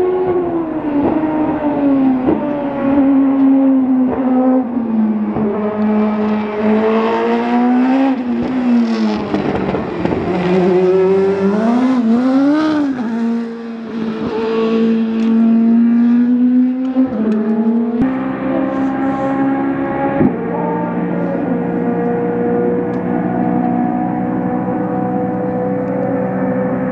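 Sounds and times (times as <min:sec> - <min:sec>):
race car engine at speed: 0:00.0 - 0:26.9.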